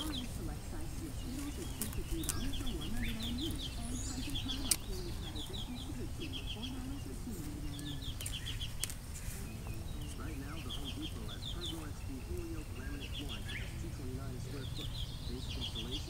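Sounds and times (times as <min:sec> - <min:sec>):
low wavering hum: 0:00.0 - 0:16.0
songbirds trilling: 0:00.0 - 0:16.0.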